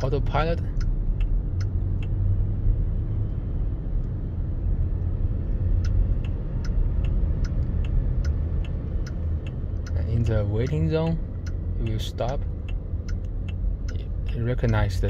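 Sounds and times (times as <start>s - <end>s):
road and tyre rumble: 0.0s - 15.0s
turn signal ticking: 0.0s - 15.0s.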